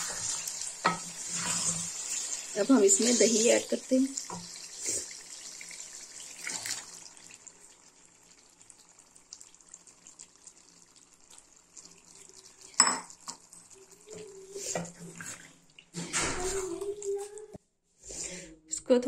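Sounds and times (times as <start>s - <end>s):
chicken sizzling in a pot: 0.0s - 16.8s.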